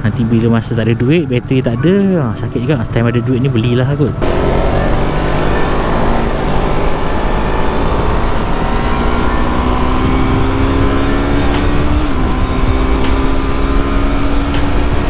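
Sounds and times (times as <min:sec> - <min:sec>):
motorcycle engine accelerating: 0:02.2 - 0:15.0.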